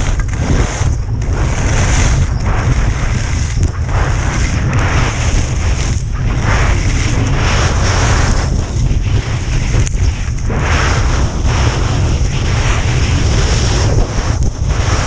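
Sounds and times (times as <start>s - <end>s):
skis scraping over hard snow: 0.0s - 15.0s
wind buffeting microphone: 0.0s - 15.0s.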